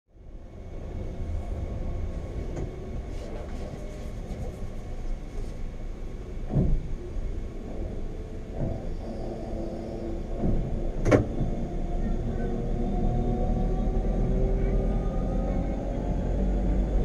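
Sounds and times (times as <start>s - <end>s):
train running with low rumble: 0.1s - 17.0s.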